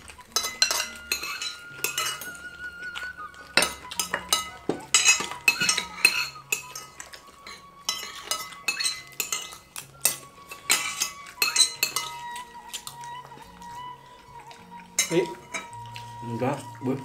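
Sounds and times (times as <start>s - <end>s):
spoons clinking on plates: 0.0s - 16.4s.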